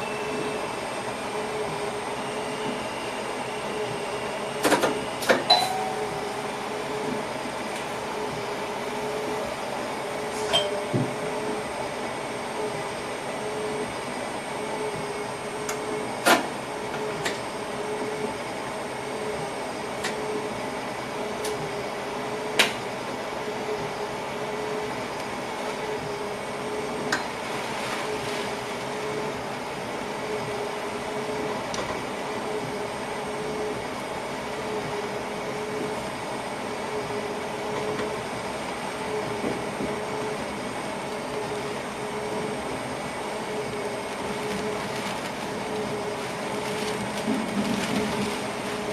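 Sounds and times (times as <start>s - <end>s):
train hum and rumble: 0.0s - 48.9s.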